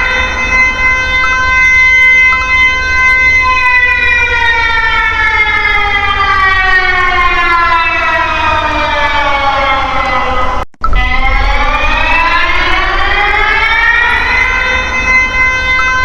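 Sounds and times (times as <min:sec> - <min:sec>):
alarm siren falling in pitch: 0:00.0 - 0:16.0.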